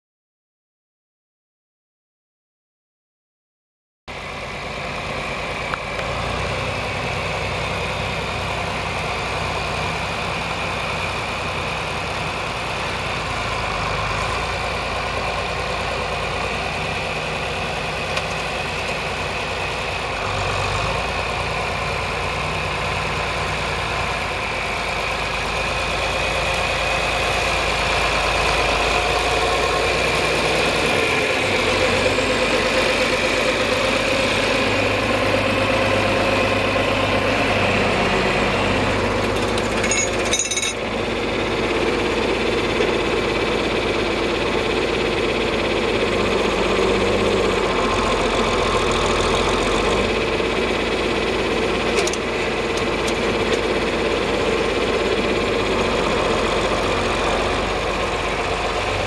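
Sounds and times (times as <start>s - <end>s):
tractor diesel engine running: 4.1s - 59.0s.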